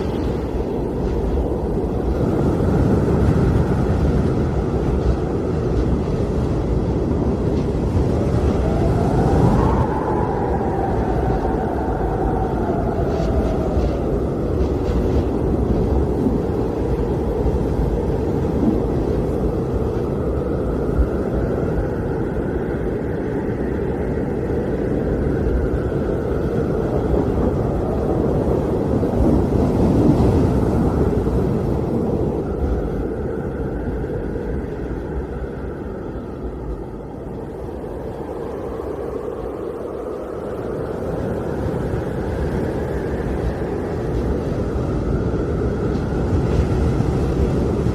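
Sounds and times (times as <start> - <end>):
blizzard wind blowing: 0.0 - 47.9.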